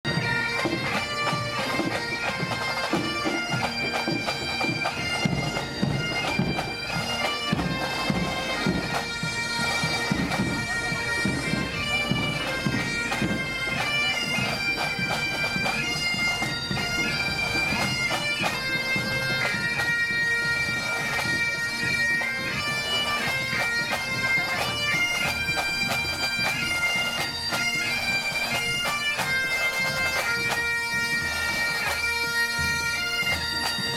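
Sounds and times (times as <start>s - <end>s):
bagpipes playing: 0.0s - 33.9s
drumming: 0.1s - 32.0s.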